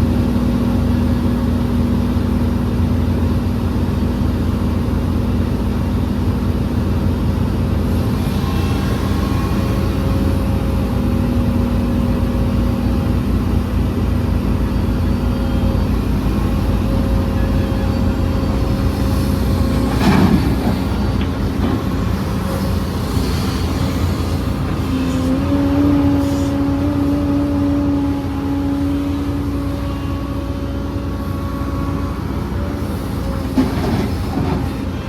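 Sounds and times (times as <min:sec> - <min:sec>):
diesel construction machinery running: 0:00.0 - 0:35.0.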